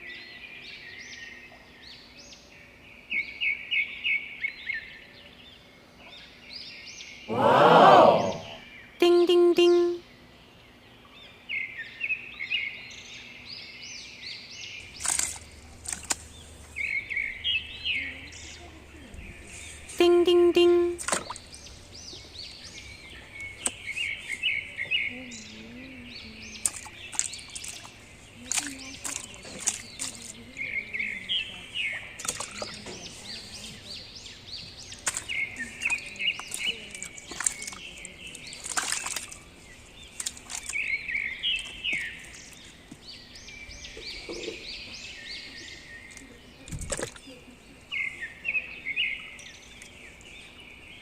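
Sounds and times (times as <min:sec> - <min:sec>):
bird chirping: 0:08.1 - 0:51.0.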